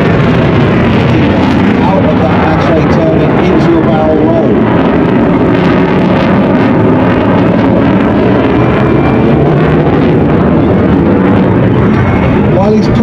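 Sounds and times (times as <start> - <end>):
fighter jet engines roaring: 0.0 - 13.0.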